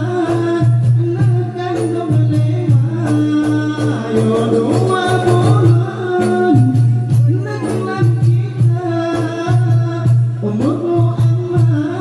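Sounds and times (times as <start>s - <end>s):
frame drums playing a steady beat: 0.0s - 12.0s
men singing a duet: 0.0s - 12.0s.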